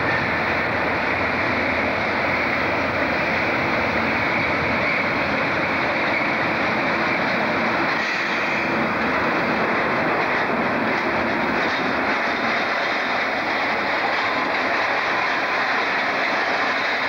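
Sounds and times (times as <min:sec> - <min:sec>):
diesel locomotive passing: 0:00.0 - 0:17.0.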